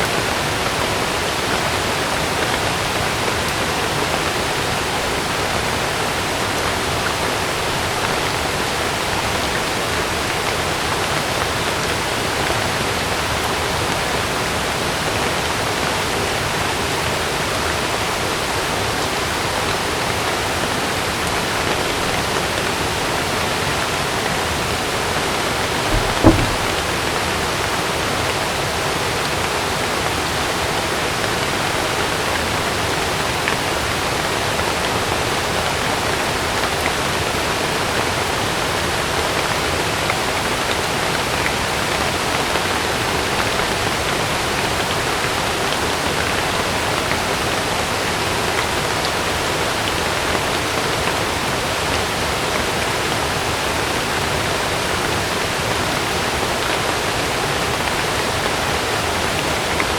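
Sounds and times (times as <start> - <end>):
heavy rain on a tent: 0.0 - 24.8, 25.9 - 59.9.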